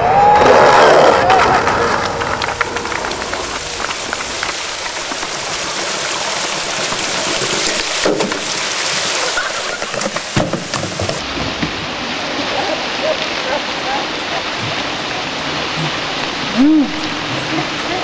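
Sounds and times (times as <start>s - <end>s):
fountain water splashing: 0.8s - 18.0s.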